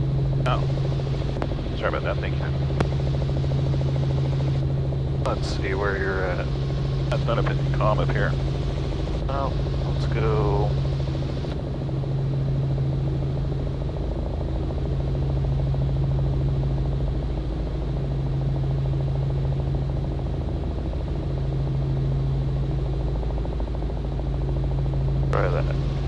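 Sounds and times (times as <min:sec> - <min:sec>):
helicopter drone in cabin: 0:00.0 - 0:26.0.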